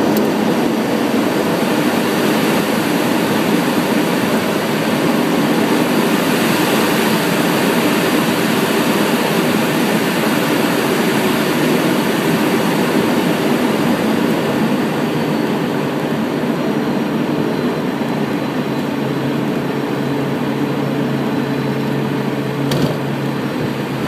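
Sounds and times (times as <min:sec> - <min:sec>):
aircraft engine and rushing air: 0:00.0 - 0:24.0.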